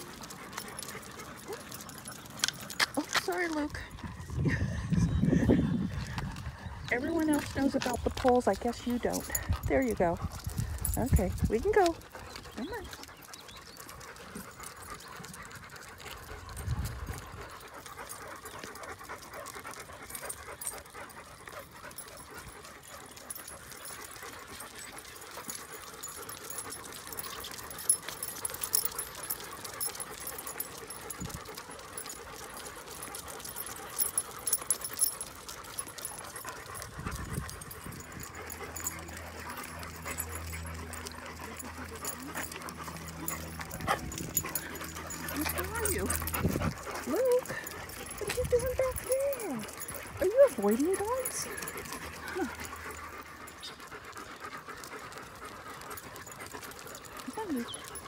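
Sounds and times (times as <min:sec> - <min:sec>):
dogs panting: 0:00.0 - 0:58.0.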